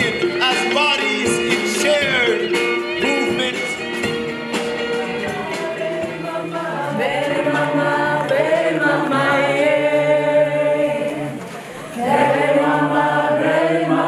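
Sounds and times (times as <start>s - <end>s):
voices singing chant-like notes: 0.0s - 14.0s.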